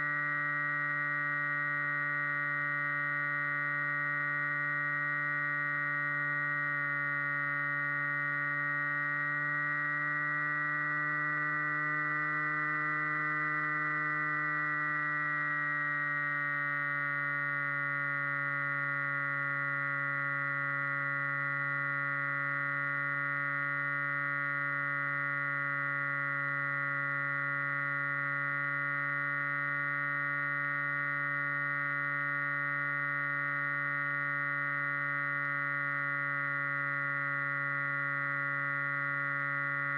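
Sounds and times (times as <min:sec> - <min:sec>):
model plane motor and propeller drone: 0:00.0 - 0:39.9.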